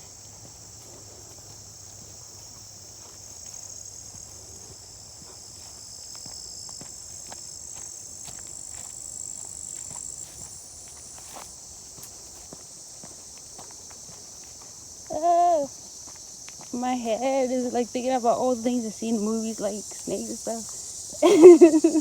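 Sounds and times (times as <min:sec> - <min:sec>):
footsteps crunching on trail: 0:00.0 - 0:22.0
high-pitched insect chorus: 0:00.0 - 0:22.0.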